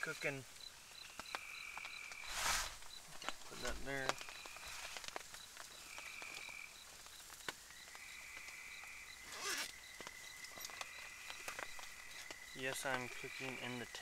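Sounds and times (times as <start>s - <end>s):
high chirp of night insects: 0.0s - 14.0s.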